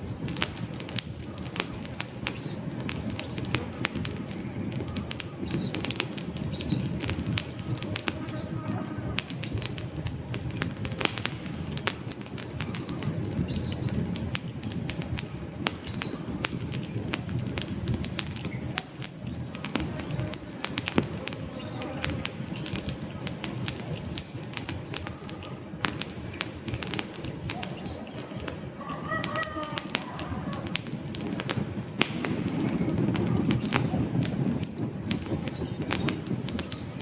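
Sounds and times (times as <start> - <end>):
campfire crackling and popping: 0.0 - 37.0
low rush of flame: 0.0 - 37.0.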